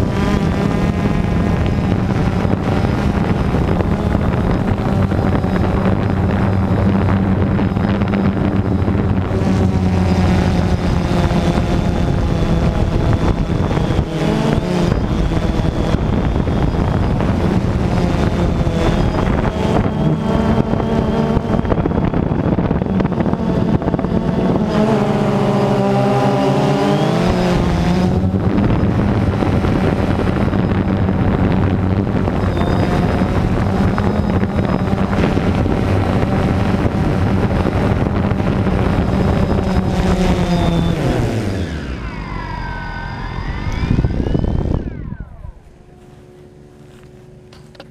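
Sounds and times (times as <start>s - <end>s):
drone motors buzzing: 0.0s - 47.9s
wind rushing over microphone: 0.0s - 47.9s.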